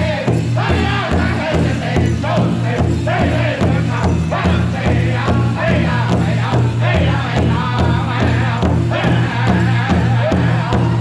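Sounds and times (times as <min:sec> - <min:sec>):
drum group singing together: 0:00.0 - 0:11.0
large drum beating steadily: 0:00.0 - 0:11.0.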